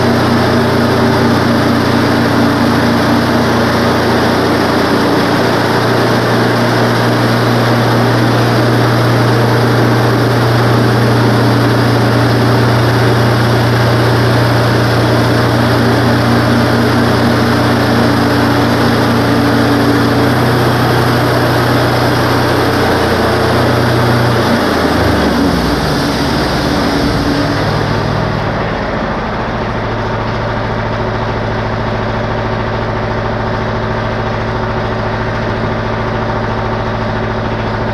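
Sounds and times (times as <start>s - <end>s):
band sawmill running: 0.0s - 37.9s
engine idling: 0.0s - 37.9s.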